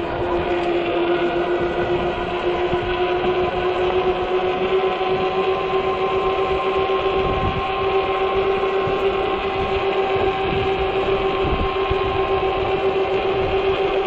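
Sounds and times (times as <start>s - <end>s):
electric motor whining: 0.0s - 14.0s
wind buffeting microphone: 0.0s - 14.0s.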